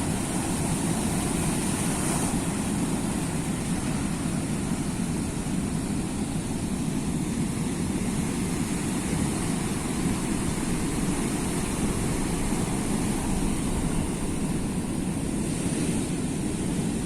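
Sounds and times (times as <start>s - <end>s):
sea surf rushing: 0.0s - 17.0s.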